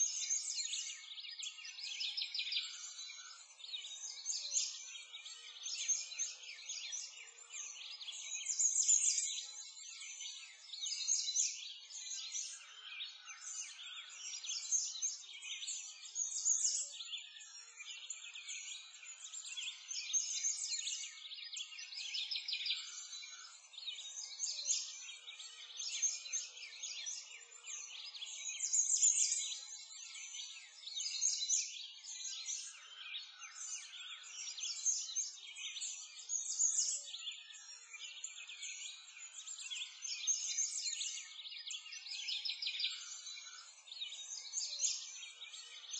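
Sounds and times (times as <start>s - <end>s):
small birds chirping and twittering: 0.0s - 45.9s.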